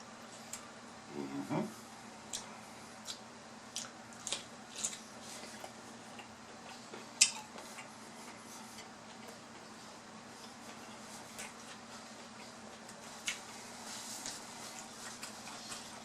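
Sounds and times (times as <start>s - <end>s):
fan humming: 0.0s - 16.0s
crunchy chewing: 2.2s - 16.0s.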